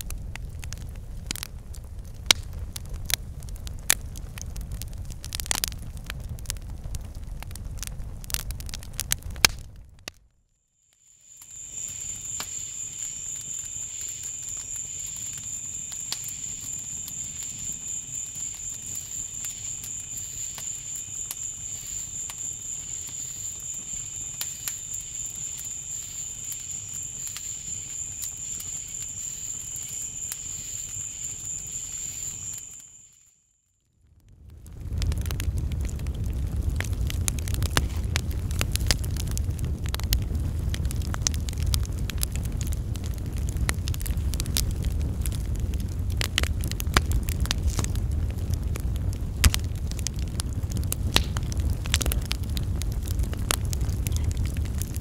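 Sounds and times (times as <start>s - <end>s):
campfire crackling and popping: 0.0s - 10.2s, 11.2s - 33.1s, 34.1s - 55.0s
low rumble of burning: 0.0s - 10.4s, 11.0s - 33.1s, 33.8s - 55.0s.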